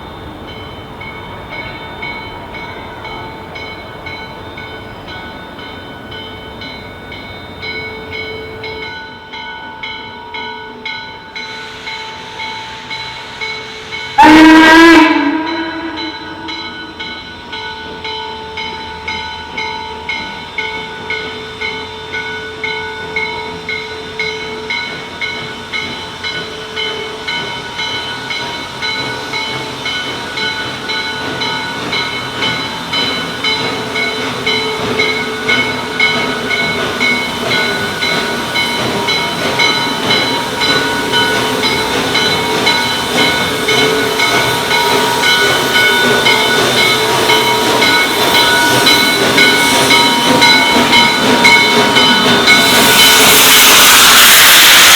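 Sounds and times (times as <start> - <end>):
steam locomotive bell ringing: 0.0 - 54.9
steam hissing: 4.5 - 54.9.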